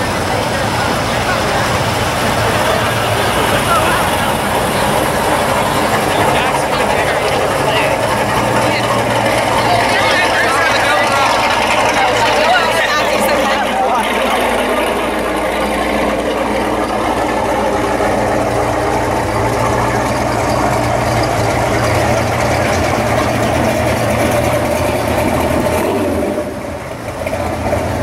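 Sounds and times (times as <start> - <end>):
muscle car exhaust rumbling: 0.0 - 28.0.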